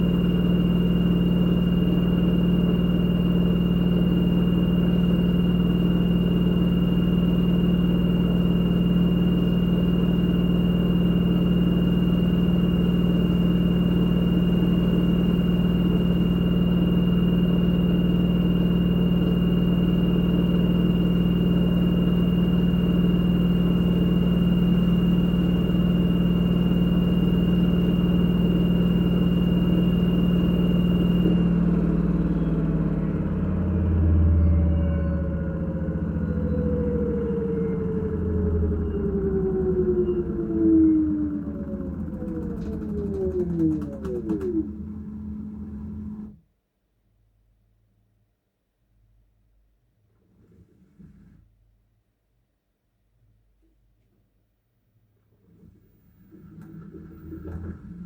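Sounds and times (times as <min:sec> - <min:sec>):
washing machine spinning: 0:00.0 - 0:46.4, 0:56.3 - 0:58.0.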